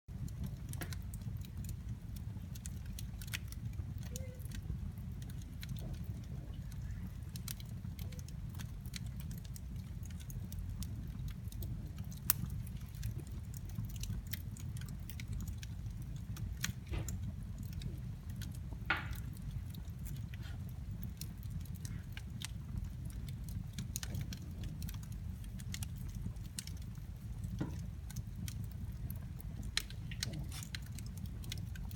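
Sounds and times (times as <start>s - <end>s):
fire crackles and pops: 0.1s - 31.9s
wood fire rumbling: 0.1s - 31.9s.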